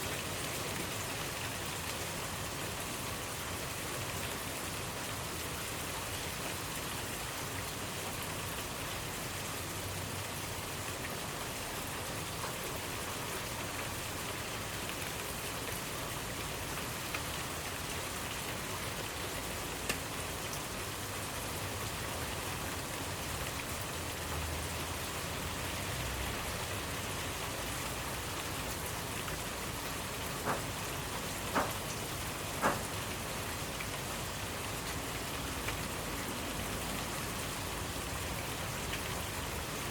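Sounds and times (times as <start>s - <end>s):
raindrops striking close by: 0.0s - 39.9s
steady rainfall: 0.0s - 39.9s.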